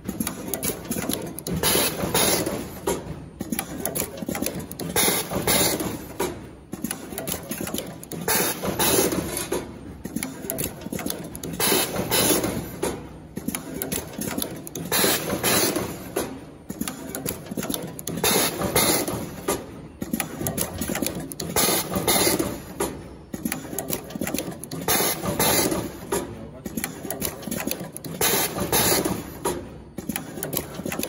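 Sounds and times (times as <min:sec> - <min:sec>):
machine mechanical clatter: 0:00.0 - 0:31.0.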